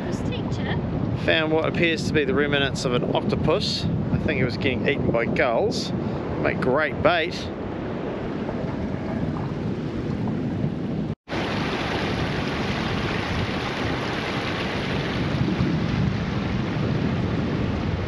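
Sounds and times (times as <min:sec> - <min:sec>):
wind buffeting microphone: 0:00.0 - 0:18.0
surf breaking on reef: 0:00.8 - 0:18.0.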